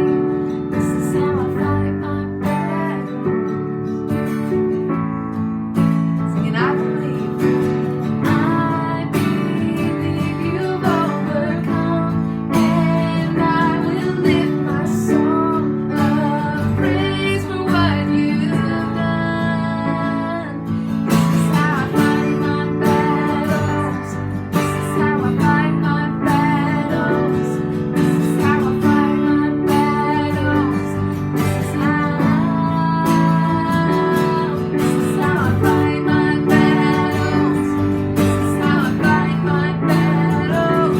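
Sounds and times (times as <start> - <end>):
strummed acoustic guitar: 0.0 - 40.9
person singing: 0.8 - 3.4, 6.4 - 40.9.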